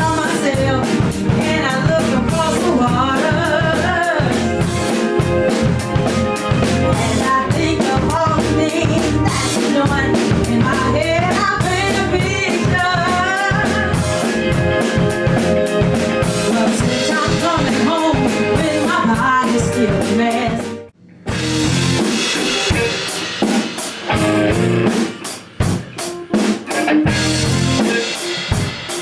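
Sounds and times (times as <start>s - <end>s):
sustained bass notes: 0.0s - 23.0s, 24.1s - 25.0s, 27.1s - 28.0s
drum kit beat: 0.0s - 29.0s.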